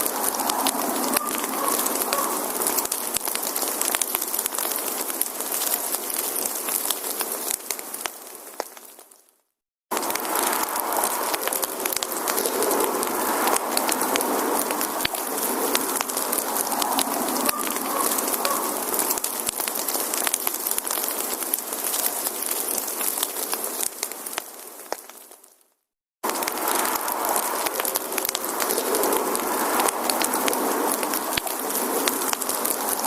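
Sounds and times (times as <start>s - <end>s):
fire hissing: 0.0s - 9.0s, 9.9s - 25.4s, 26.2s - 33.0s
campfire crackling: 0.0s - 33.0s.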